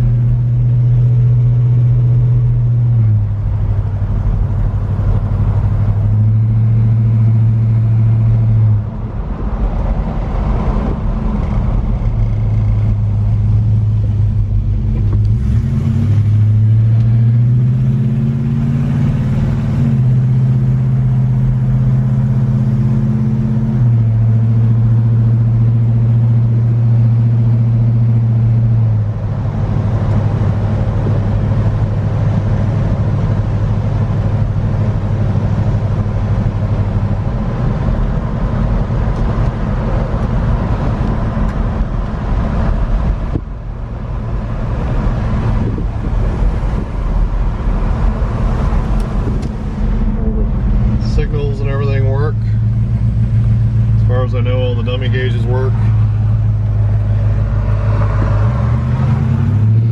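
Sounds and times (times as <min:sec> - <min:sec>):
car engine accelerating and shifting: 0:00.0 - 0:59.9
road and tyre noise: 0:00.0 - 0:59.9.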